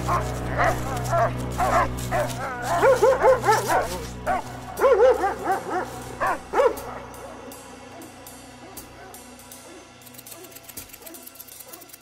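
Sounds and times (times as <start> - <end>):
background music: 0.0 - 12.0
dogs barking: 0.0 - 12.0.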